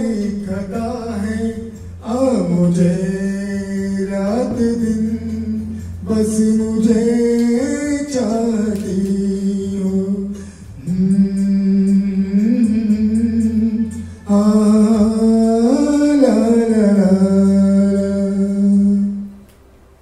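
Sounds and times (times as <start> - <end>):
man singing into a microphone: 0.0 - 19.3.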